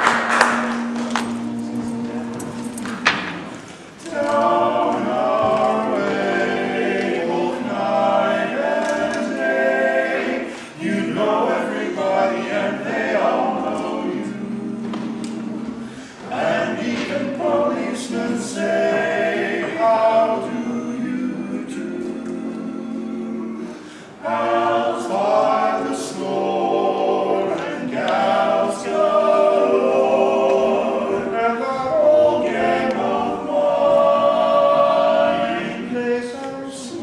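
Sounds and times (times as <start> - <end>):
men singing a cappella harmony: 4.0 - 37.0.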